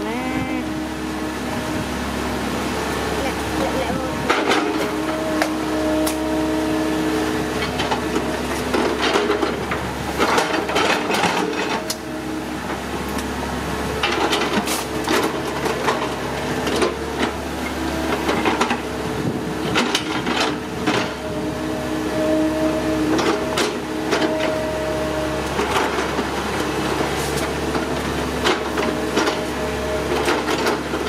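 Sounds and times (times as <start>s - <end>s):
excavator engine and hydraulics: 0.0s - 31.0s.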